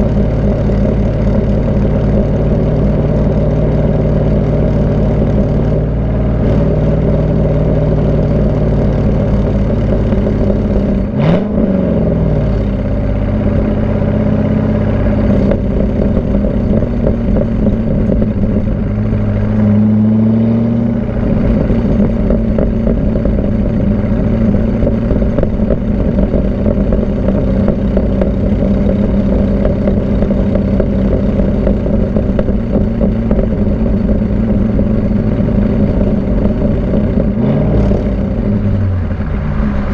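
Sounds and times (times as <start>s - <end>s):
car engine exhaust note: 0.0s - 39.9s.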